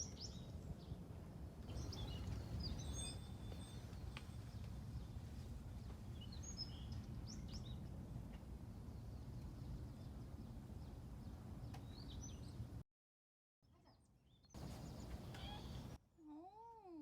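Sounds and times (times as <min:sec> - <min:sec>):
small birds chirping: 0:00.0 - 0:08.0, 0:08.8 - 0:12.8, 0:13.7 - 0:16.7.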